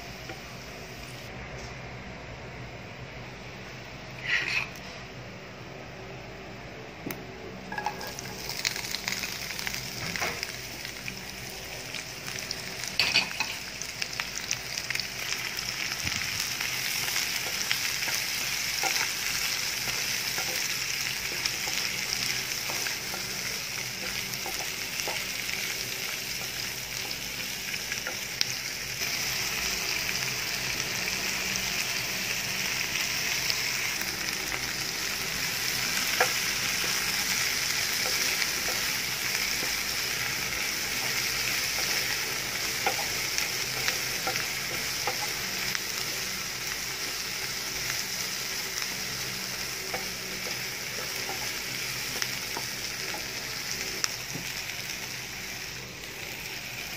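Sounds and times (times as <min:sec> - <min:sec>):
vegetables sizzling in oil: 0:07.7 - 0:56.9.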